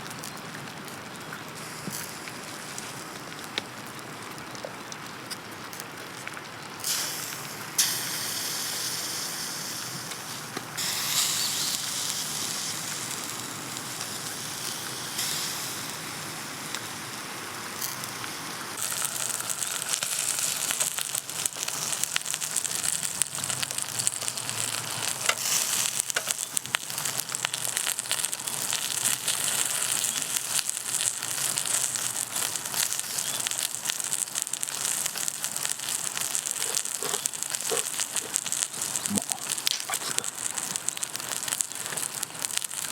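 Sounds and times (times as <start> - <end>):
food sizzling over fire: 0.0 - 42.9.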